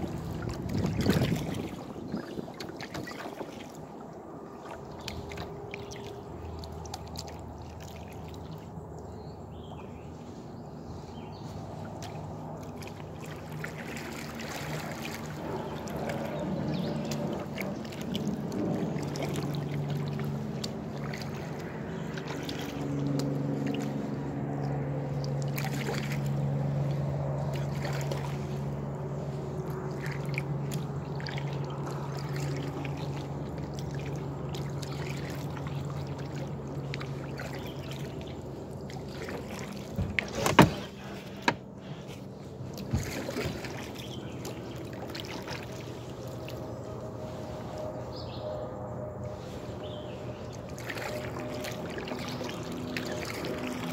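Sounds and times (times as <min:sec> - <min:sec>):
paddle strokes in water: 0:00.0 - 0:53.9
steady low drone: 0:00.0 - 0:53.9.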